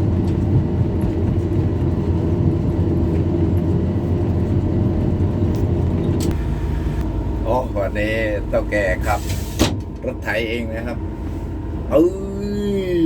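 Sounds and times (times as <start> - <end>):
heavy machinery engine running: 0.0 - 13.0.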